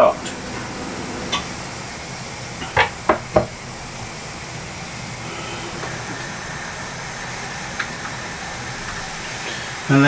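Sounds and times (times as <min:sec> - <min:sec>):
gas hob and simmering pan hiss: 0:00.0 - 0:10.0.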